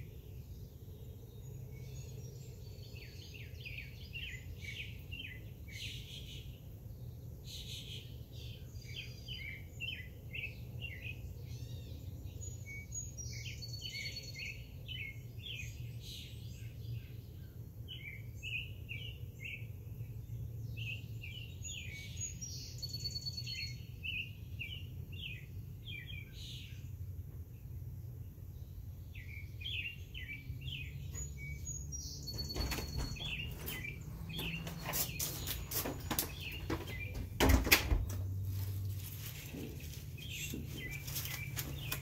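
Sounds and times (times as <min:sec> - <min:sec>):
songbirds chirping and singing: 0:00.0 - 0:42.0.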